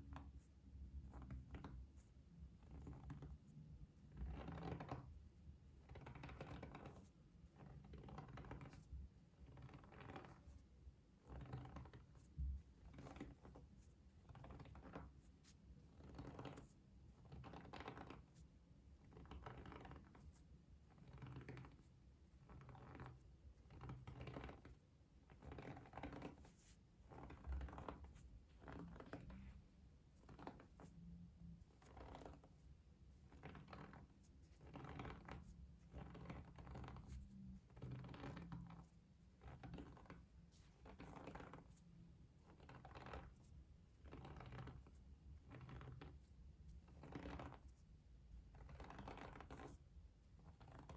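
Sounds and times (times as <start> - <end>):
soft scratching strokes: 0.2 - 50.9.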